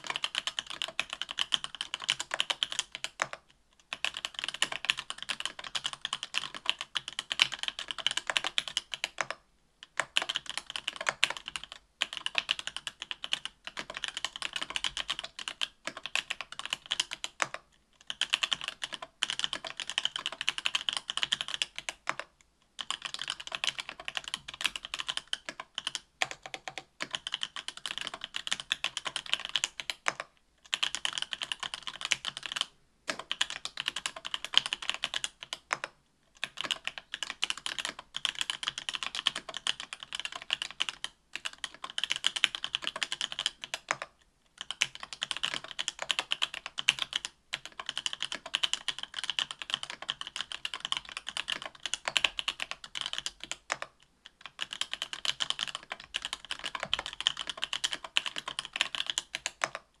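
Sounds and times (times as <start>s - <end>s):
typing on mechanical keyboard: 0.0s - 60.0s.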